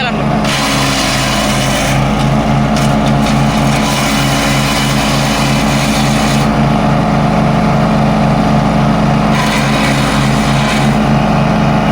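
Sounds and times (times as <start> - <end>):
wood chipper engine running: 0.0 - 11.9.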